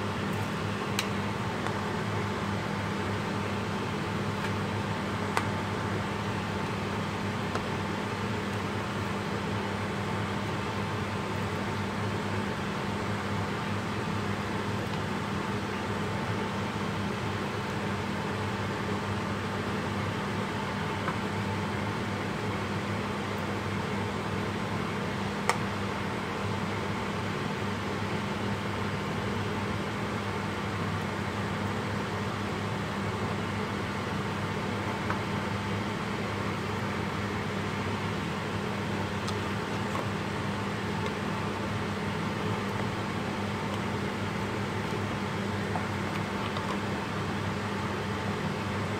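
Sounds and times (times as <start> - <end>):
fan humming: 0.0 - 48.9.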